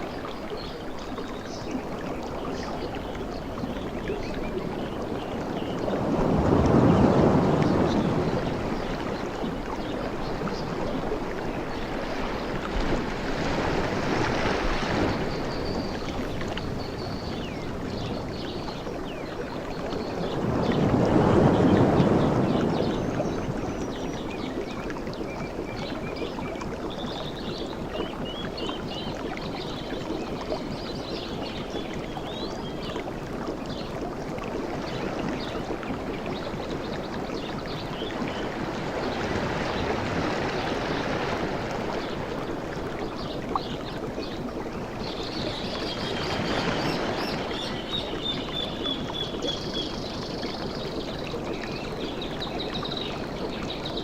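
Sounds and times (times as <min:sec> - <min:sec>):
waves washing onto beach: 0:00.0 - 0:32.2, 0:33.1 - 0:54.0.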